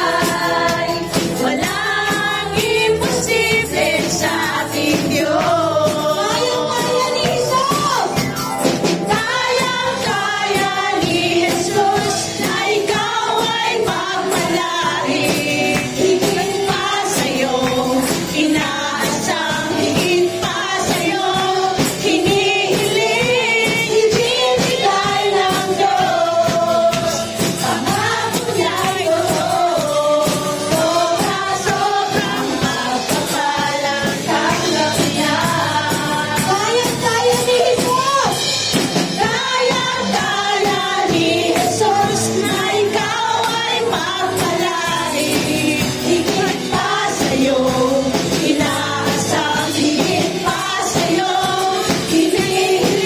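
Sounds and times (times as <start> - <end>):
women singing together: 0.0 - 8.2, 9.0 - 53.0
instrumental accompaniment with beat: 0.0 - 53.0.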